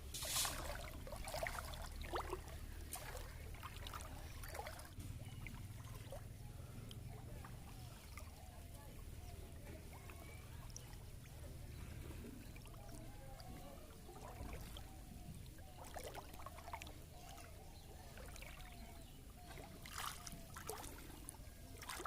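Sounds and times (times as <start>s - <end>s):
water sloshing and splashing: 0.0s - 22.0s.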